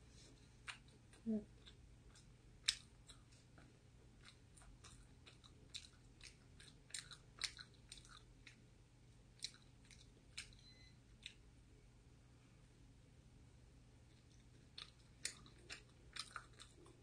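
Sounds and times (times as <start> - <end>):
chewing food close up: 0.3 - 11.5, 14.0 - 17.0.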